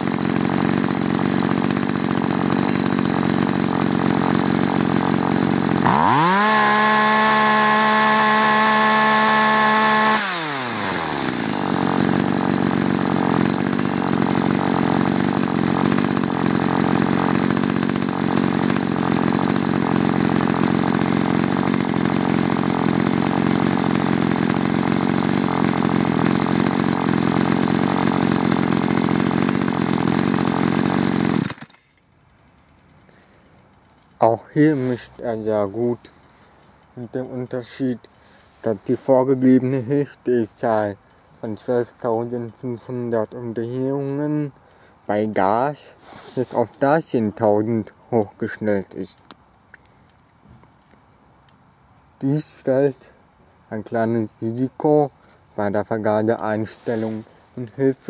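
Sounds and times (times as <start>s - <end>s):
chainsaw engine revving and idling: 0.0s - 31.8s, 32.5s - 49.1s, 53.9s - 58.0s.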